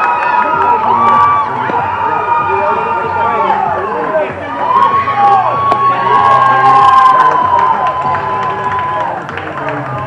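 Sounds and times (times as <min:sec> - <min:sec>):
children shouting and cheering: 0:00.0 - 0:09.1.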